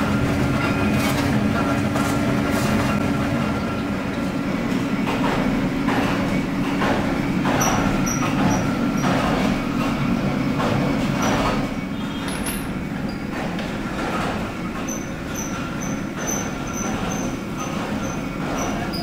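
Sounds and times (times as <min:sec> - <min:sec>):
factory machinery rumble: 0:00.0 - 0:19.0
rhythmic machine clatter: 0:00.0 - 0:19.0.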